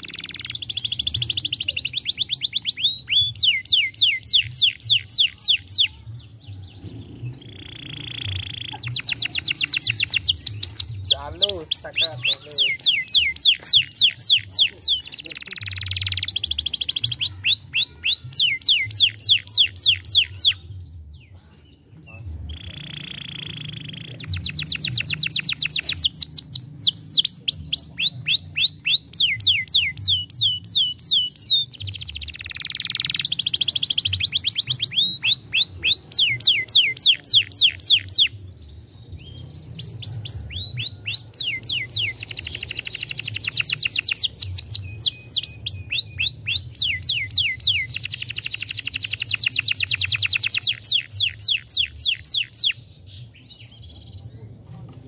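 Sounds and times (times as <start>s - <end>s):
canary singing trills: 0.0s - 54.7s.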